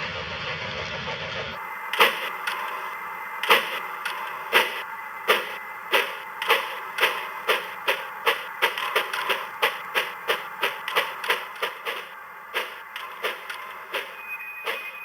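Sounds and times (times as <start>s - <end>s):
model train wheels clicking: 1.6s - 15.0s.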